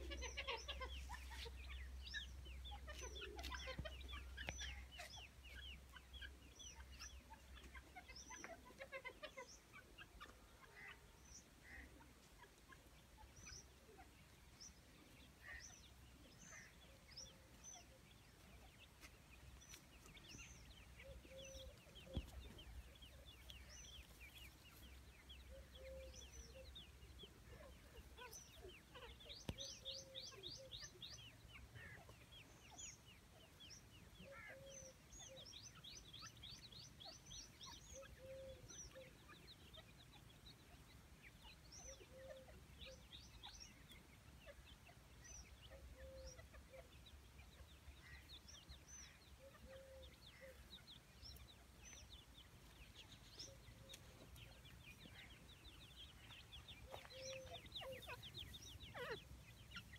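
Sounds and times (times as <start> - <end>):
birds chirping: 0.0 - 59.9
soft low bird clucks: 0.0 - 59.9.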